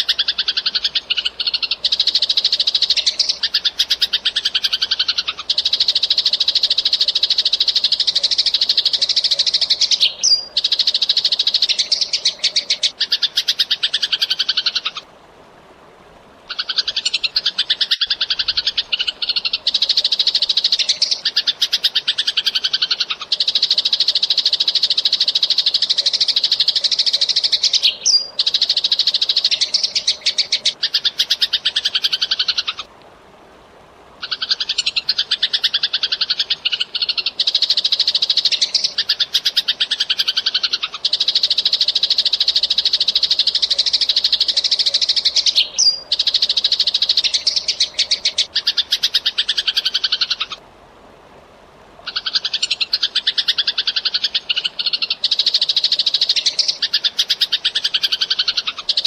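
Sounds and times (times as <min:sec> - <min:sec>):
sparrows chattering: 0:00.0 - 0:15.0, 0:16.6 - 0:32.8, 0:34.3 - 0:50.5, 0:52.1 - 0:59.0.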